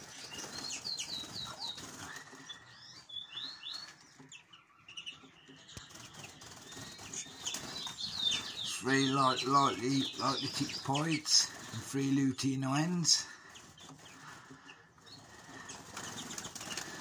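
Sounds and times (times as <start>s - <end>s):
wings flapping: 0.0s - 2.8s, 5.7s - 17.0s.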